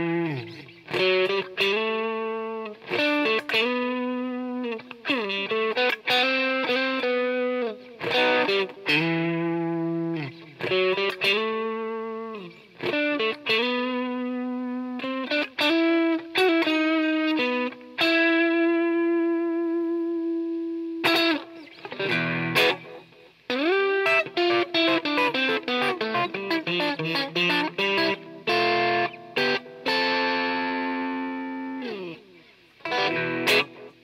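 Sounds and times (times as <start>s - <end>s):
overdriven electric guitar lead: 0.0s - 34.0s.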